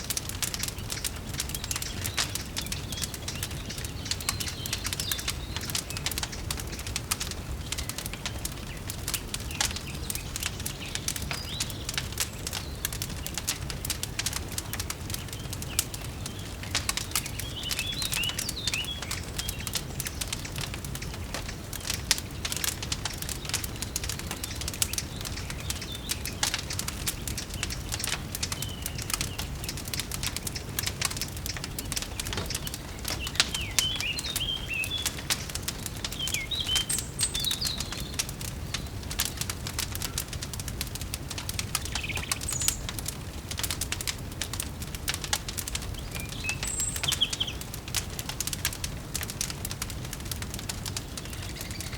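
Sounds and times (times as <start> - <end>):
birds chirping: 0.0 - 51.9
wood fire crackling and popping: 0.0 - 51.9.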